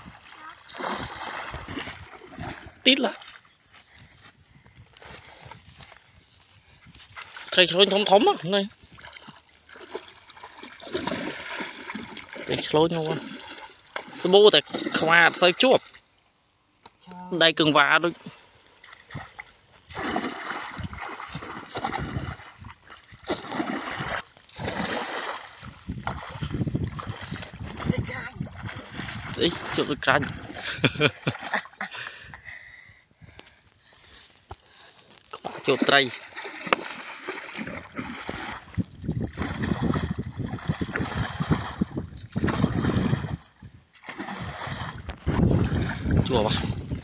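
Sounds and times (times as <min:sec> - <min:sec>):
water splashing and sloshing: 0:00.0 - 0:04.2, 0:05.0 - 0:16.3, 0:17.4 - 0:32.2, 0:33.4 - 0:47.0.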